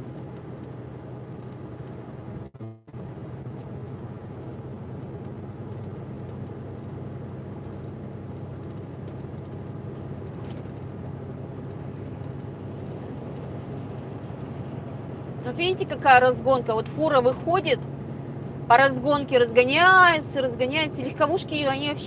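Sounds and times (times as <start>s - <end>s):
truck diesel engine drone: 0.0s - 22.0s.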